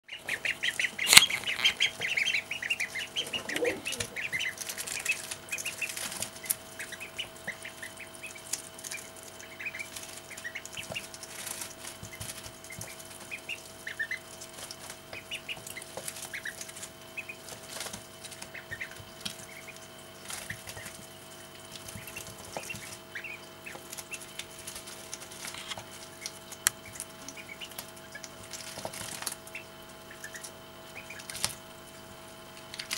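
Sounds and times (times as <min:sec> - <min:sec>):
ducklings peeping: 0:00.1 - 0:32.9
bills pecking at lettuce: 0:00.2 - 0:32.9.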